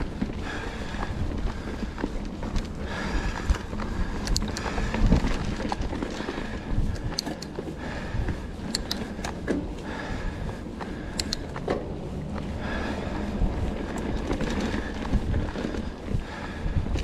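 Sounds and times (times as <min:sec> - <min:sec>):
bike clicks and rattles: 0:00.0 - 0:17.0
tyres rumbling on dirt: 0:00.0 - 0:17.0.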